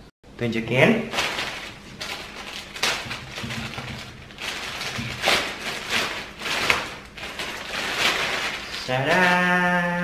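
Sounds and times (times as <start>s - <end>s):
plastic bag crinkling: 0.8s - 10.0s.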